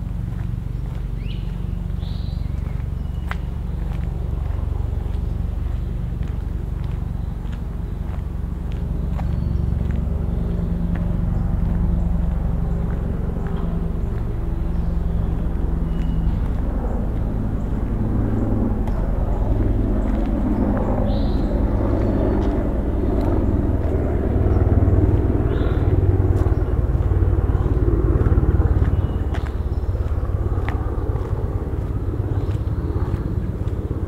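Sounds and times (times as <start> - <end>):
low mechanical rumble with hum: 0.0 - 34.0.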